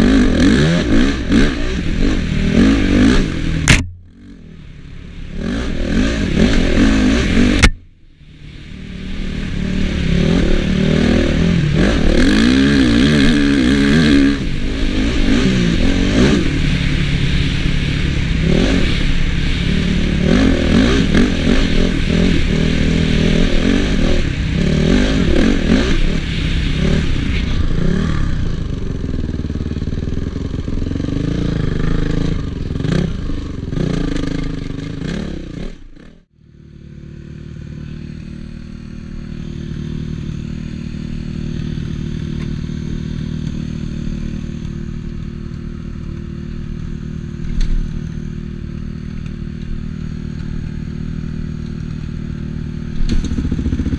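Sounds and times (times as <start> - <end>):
motocross engine revving: 0.0 - 7.8, 8.8 - 53.9.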